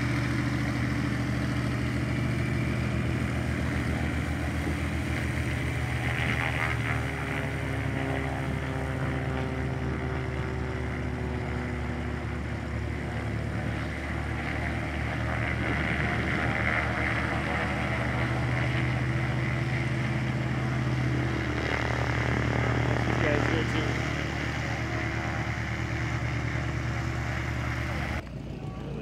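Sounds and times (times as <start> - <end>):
propeller plane engine running: 0.0 - 29.0.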